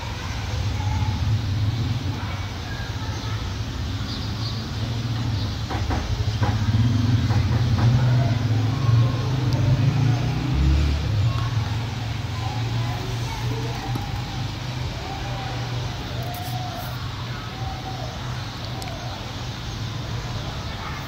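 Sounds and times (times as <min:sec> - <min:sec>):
faint background voices: 0:00.0 - 0:21.0.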